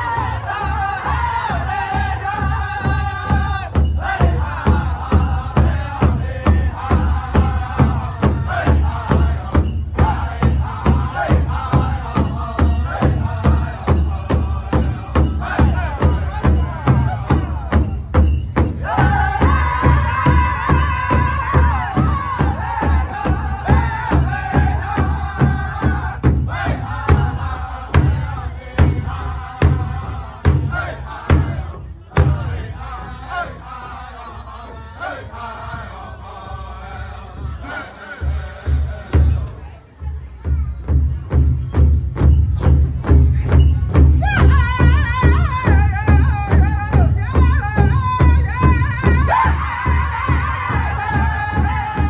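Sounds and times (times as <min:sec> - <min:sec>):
large drum steady beat: 0:00.0 - 0:34.0, 0:35.5 - 0:52.0
group singing loudly in unison: 0:00.0 - 0:39.5, 0:44.4 - 0:52.0.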